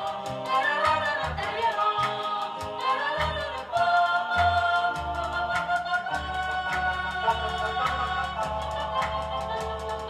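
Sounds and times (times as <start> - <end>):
recorded song playing: 0.0 - 10.0.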